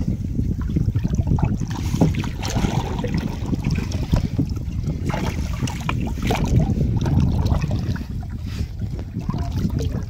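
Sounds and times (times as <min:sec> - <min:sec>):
water lapping at boat: 0:00.0 - 0:10.0
wind rumbling on microphone: 0:00.0 - 0:10.0.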